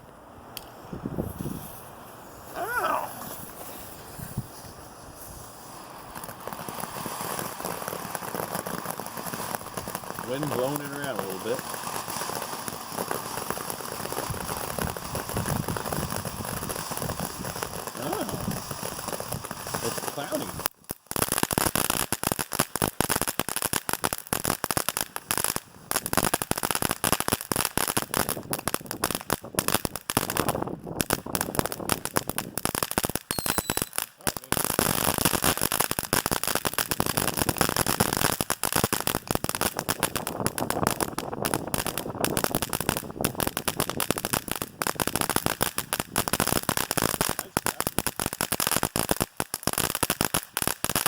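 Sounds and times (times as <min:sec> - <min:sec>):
fireworks popping and crackling: 0:00.0 - 0:51.0.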